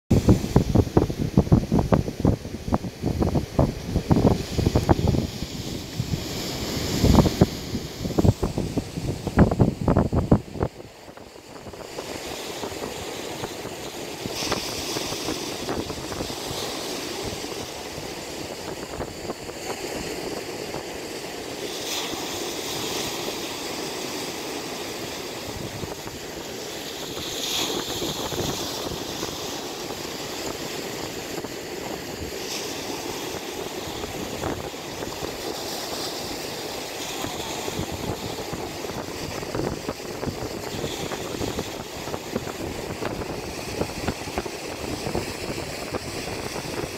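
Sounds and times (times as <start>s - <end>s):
wind: 0.0s - 46.9s
distant sea surf: 0.1s - 46.9s.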